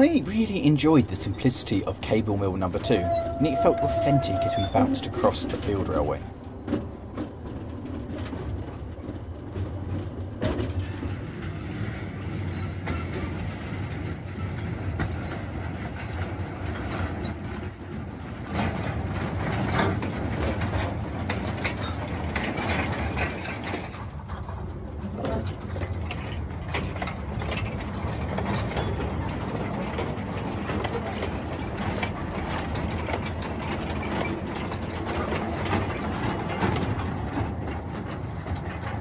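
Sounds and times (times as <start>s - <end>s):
small locomotive engine drone: 0.0s - 39.0s
train rattling and clanking: 0.0s - 39.0s.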